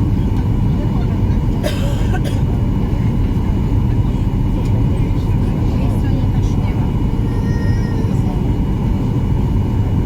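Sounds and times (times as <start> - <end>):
aircraft cabin engine rumble: 0.0 - 10.0.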